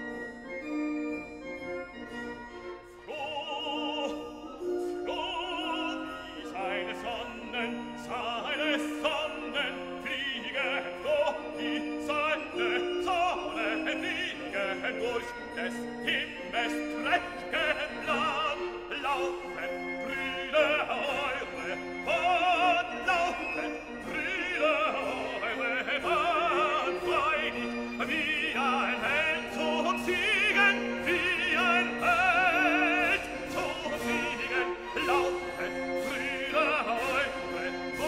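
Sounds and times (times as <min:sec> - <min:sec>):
instrumental accompaniment: 0:00.0 - 0:38.0
operatic singing: 0:02.8 - 0:38.0.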